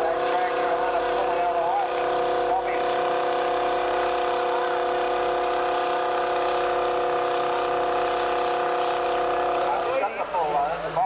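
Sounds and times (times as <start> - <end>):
tractor engine droning under load: 0.0 - 11.0.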